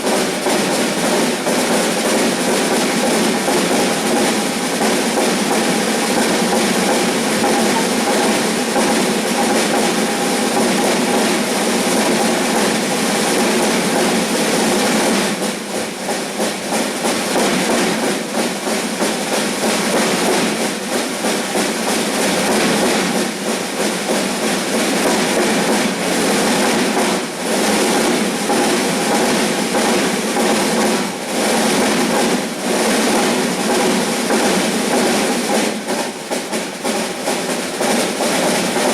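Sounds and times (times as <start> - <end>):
drums playing fast pattern: 0.0 - 38.9.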